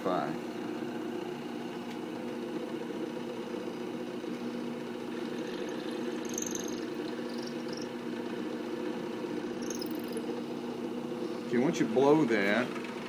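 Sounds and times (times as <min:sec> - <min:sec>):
drill press motor hum: 0:00.4 - 0:13.0.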